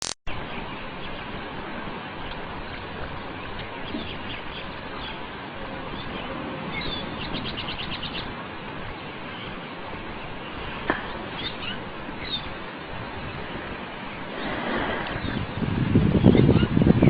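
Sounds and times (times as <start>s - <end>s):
steady background hiss: 0.3s - 16.2s.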